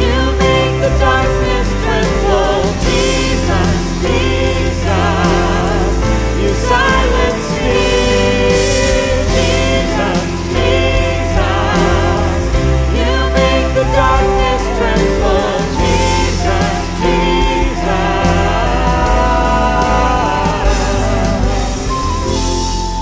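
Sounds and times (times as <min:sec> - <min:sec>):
band playing worship music: 0:00.0 - 0:23.0
person singing: 0:00.0 - 0:23.0.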